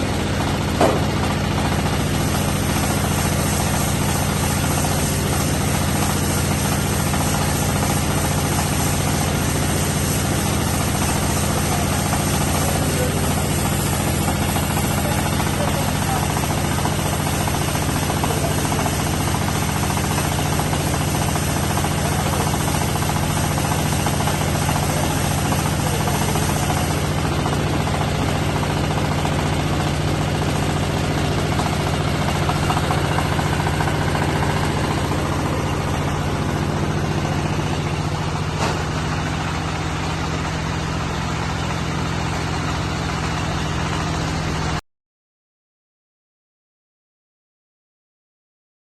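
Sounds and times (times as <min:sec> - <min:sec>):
baling machine engine running: 0:00.0 - 0:44.8.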